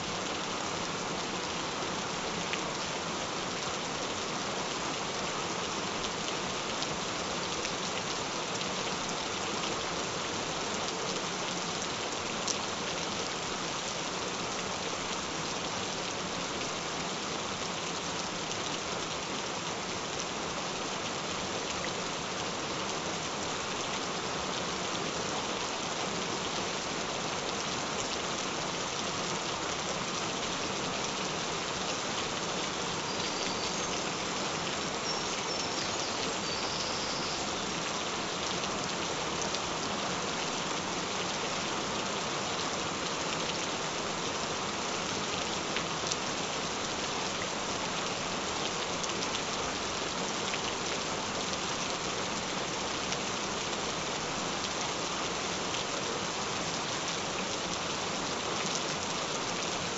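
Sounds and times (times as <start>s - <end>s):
gentle steady rain: 0.0s - 59.9s.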